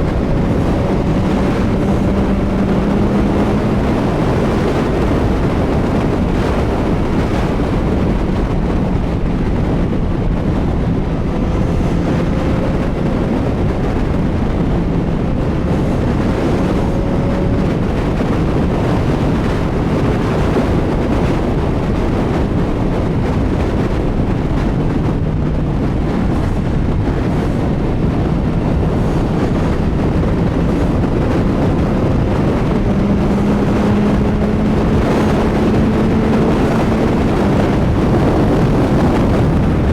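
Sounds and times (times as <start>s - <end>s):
faint engine hum: 0.0s - 39.9s
wind rush on microphone: 0.0s - 39.9s.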